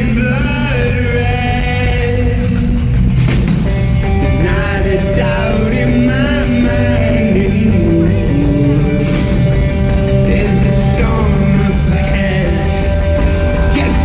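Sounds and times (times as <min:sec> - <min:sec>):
lead vocal singing: 0:00.0 - 0:14.0
rock band playing live: 0:00.0 - 0:14.0.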